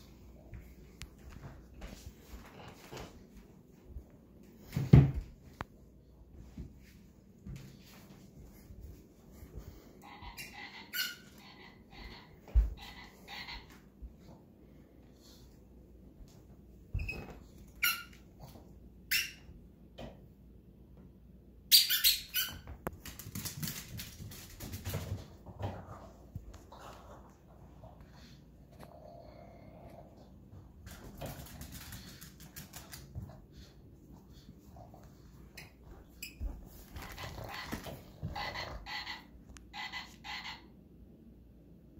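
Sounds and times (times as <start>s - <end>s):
rustling of dog beds and toys: 0.0s - 40.6s.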